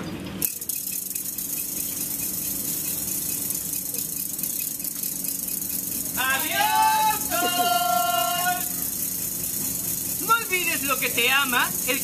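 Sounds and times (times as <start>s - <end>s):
low steady hum: 0.0s - 12.0s
spring mechanism rattling: 0.4s - 12.0s.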